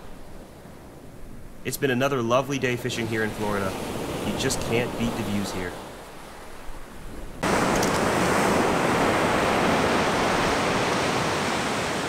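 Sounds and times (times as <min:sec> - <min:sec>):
ocean surf breaking: 0:00.0 - 0:12.0
wind: 0:00.0 - 0:12.0.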